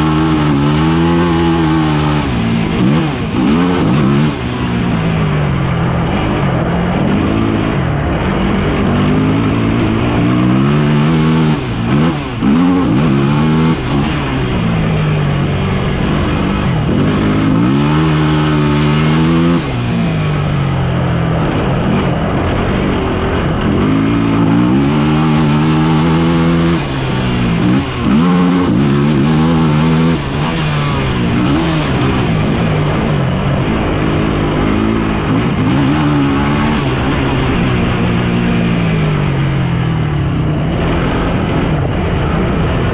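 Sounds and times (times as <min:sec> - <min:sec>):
off-road vehicle engine revving: 0:00.0 - 0:42.9.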